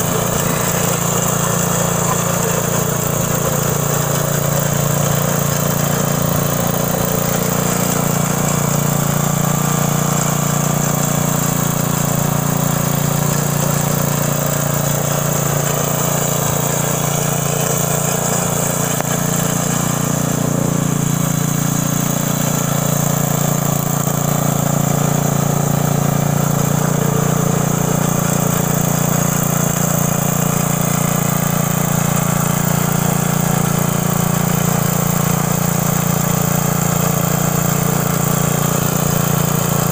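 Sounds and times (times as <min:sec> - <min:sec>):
garden tiller engine droning: 0:00.0 - 0:39.9.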